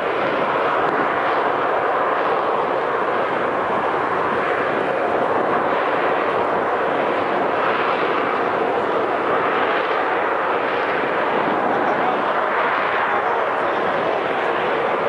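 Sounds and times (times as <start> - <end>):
loud jet roar: 0.0 - 15.0.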